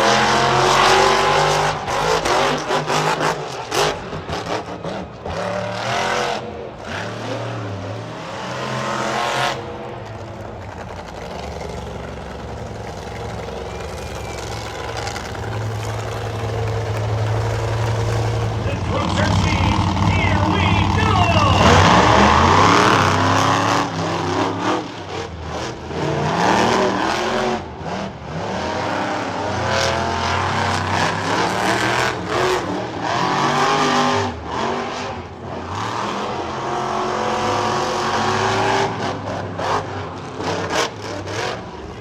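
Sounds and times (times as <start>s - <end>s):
monster truck engines revving: 0.0s - 42.0s.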